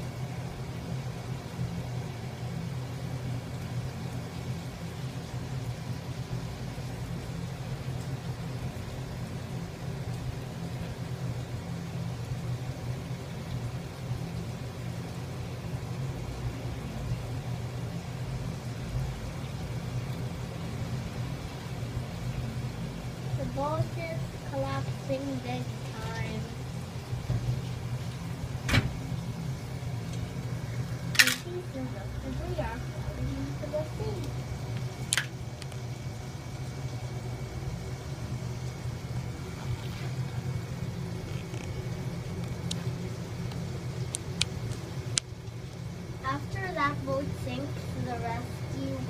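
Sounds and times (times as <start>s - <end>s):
motor rumbling: 0.0s - 49.0s
steady low hum: 0.0s - 49.0s.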